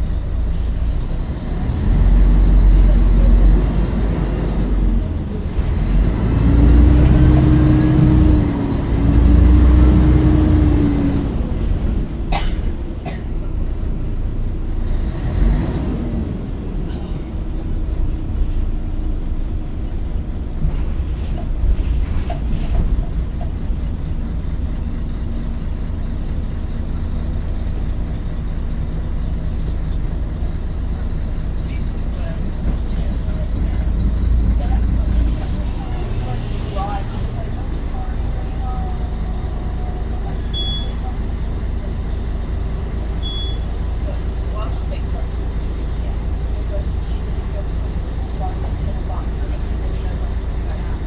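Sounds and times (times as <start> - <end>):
bus engine pulling: 0.0 - 51.0.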